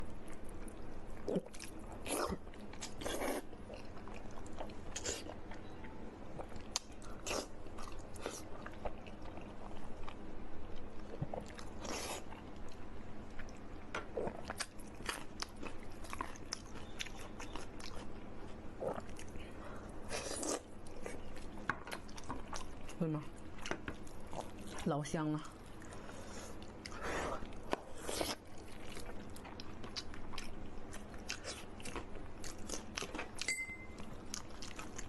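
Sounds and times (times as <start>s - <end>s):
person chewing crunchy food: 0.2s - 5.6s, 6.3s - 24.9s, 25.5s - 35.0s.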